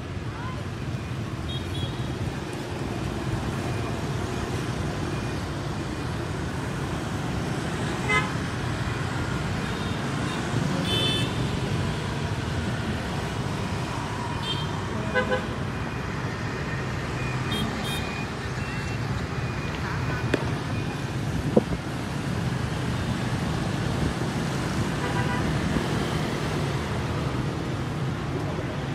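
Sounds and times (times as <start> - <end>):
traffic passing with low rumble: 0.0 - 28.9.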